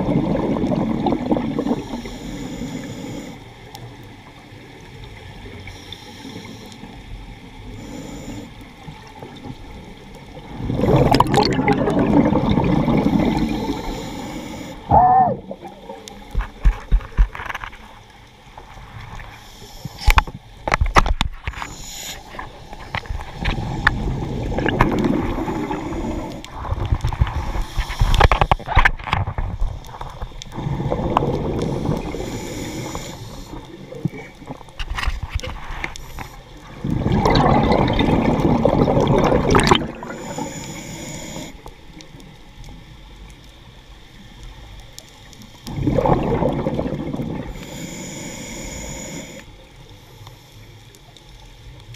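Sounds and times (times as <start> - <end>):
underwater bubbles gurgling: 0.0 - 51.9.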